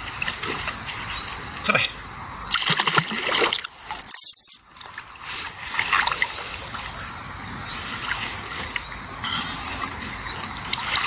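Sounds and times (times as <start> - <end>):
river water splashing: 0.0 - 1.7, 2.4 - 11.0.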